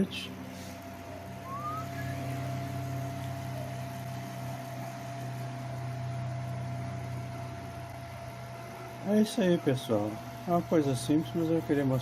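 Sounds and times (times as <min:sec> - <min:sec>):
computer cooling fans humming: 0:00.0 - 0:12.0.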